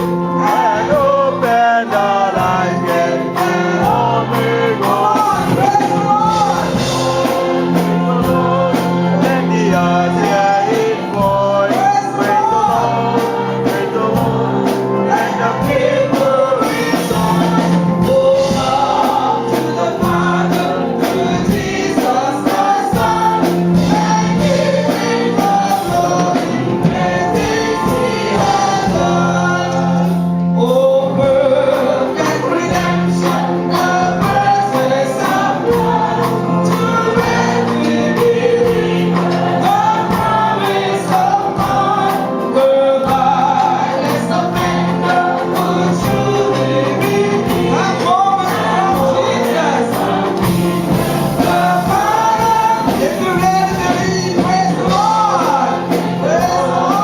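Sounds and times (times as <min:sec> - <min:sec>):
gospel choir singing: 0:00.0 - 0:57.0
steady percussive beat: 0:00.0 - 0:57.0
sustained bass notes: 0:00.0 - 0:57.0.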